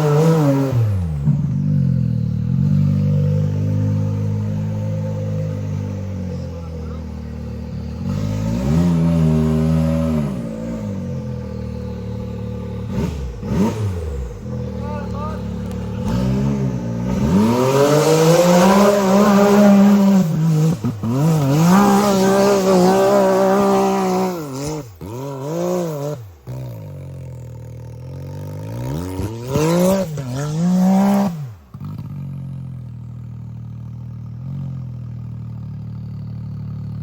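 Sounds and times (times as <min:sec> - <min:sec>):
engine revving hard: 0:00.0 - 0:27.1, 0:28.3 - 0:32.1.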